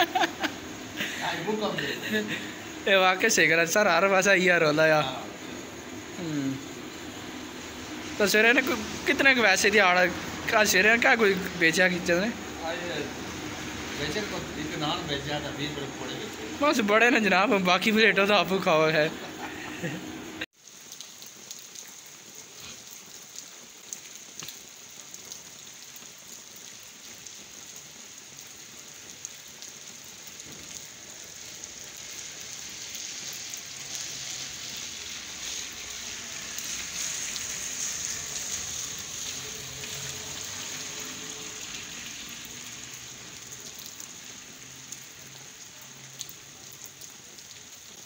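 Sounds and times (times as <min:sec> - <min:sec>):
rain on wet pavement: 0:00.0 - 0:48.0.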